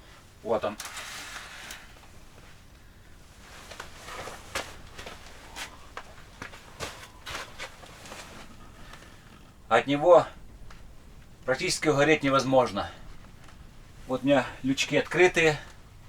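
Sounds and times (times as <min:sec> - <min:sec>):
handling clicks and rustles: 0:00.0 - 0:16.0.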